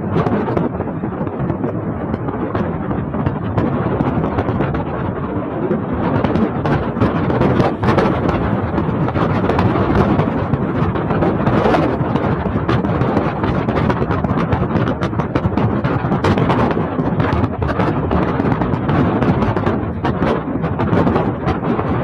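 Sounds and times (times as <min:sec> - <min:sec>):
wind buffeting microphone: 0:00.0 - 0:22.0
road noise: 0:02.6 - 0:21.9.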